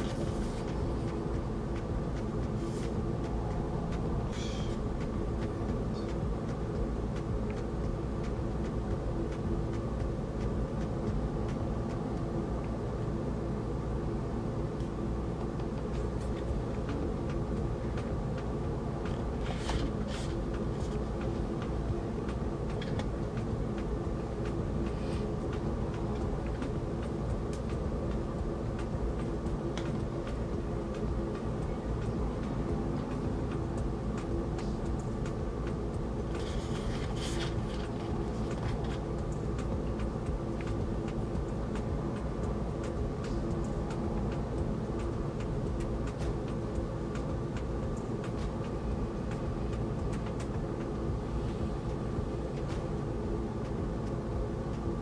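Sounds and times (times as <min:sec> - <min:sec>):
steady droning hum: 0:00.0 - 0:55.0.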